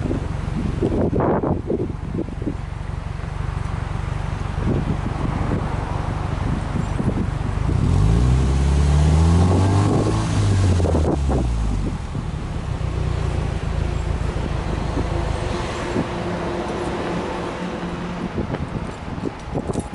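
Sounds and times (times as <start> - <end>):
car engine revving and idling: 0.0 - 19.5.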